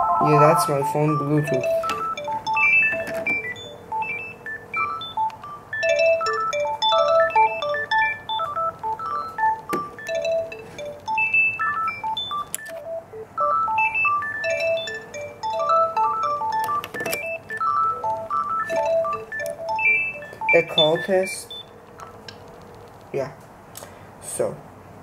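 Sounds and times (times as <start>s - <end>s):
cordless phone melody ringtone: 0.0s - 22.2s.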